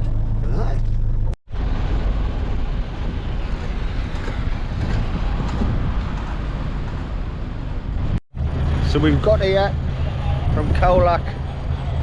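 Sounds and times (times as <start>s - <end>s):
minibus road and engine rumble: 0.0s - 12.0s
wind noise on microphone: 1.1s - 12.0s.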